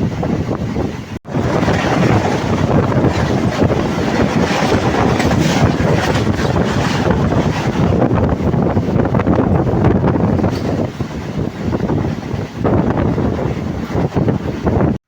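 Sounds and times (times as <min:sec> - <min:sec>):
train passing: 0:00.0 - 0:15.0
wind buffeting microphone: 0:00.0 - 0:15.0.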